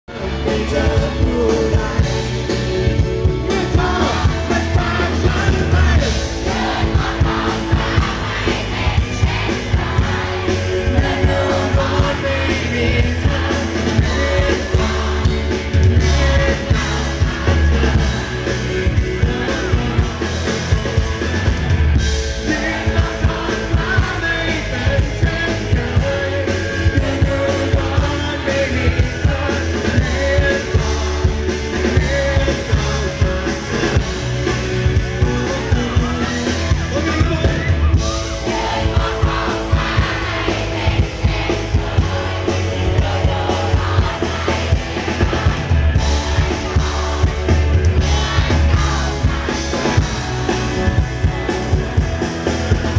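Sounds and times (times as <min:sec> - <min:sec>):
man singing: 0:00.0 - 0:08.3, 0:09.0 - 0:52.1
rock band playing: 0:00.0 - 0:52.9.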